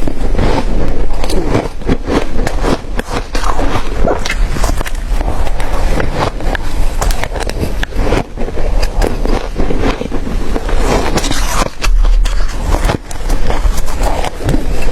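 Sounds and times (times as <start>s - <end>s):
chewing crunchy ice: 0.0s - 14.9s.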